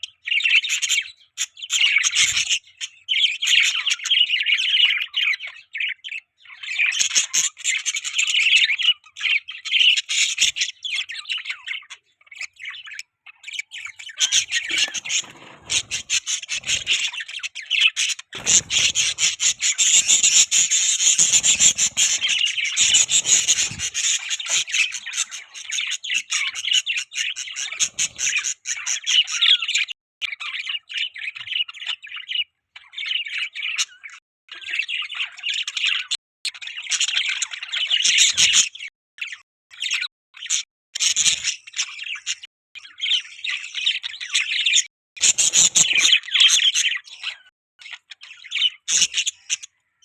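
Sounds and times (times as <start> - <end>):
budgies chirping and chattering: 0.0 - 50.0.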